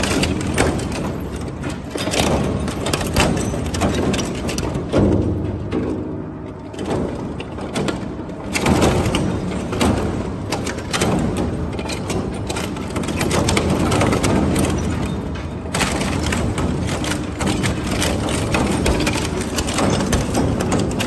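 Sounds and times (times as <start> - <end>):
metal cracking and crunching: 0.0 - 21.0.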